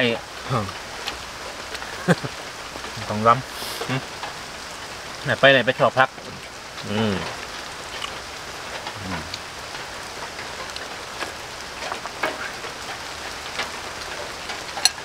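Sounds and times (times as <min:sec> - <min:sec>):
sharp rain ticks: 0:00.0 - 0:15.0
steady rain hissing: 0:00.0 - 0:15.0.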